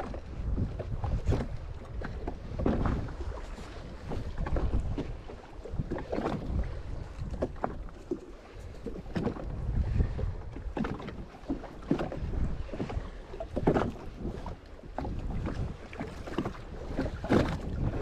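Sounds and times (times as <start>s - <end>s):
small waves slapping against hull: 0.0s - 18.0s
wind buffeting microphone: 0.0s - 18.0s.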